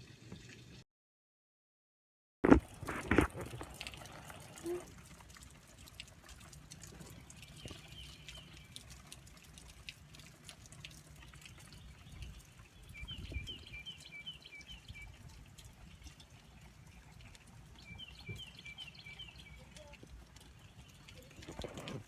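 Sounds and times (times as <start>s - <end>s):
rain dripping: 2.5s - 22.0s.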